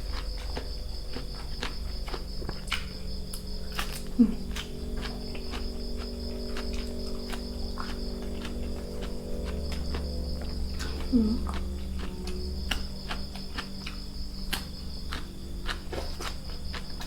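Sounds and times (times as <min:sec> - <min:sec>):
crickets trilling: 0:00.0 - 0:17.0
person chewing crunchy food: 0:00.0 - 0:17.0.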